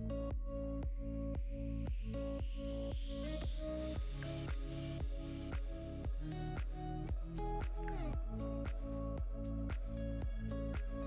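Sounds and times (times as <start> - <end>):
electronic music with steady beat: 0.8 - 11.0.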